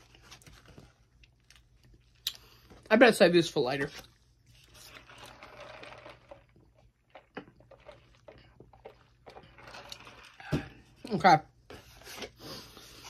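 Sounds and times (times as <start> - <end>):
faint rustling and handling: 0.0 - 11.0.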